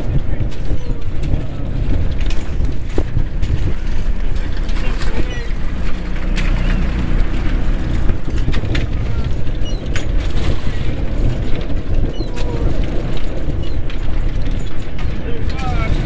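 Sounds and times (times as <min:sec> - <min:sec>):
boat engine running: 0:00.0 - 0:16.0
metal clanks and knocks: 0:00.0 - 0:16.0
wind on microphone: 0:00.0 - 0:16.0.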